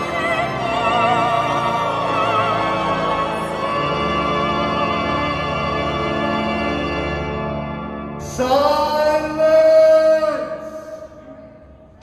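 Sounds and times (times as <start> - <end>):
operatic classical music: 0.0 - 12.0.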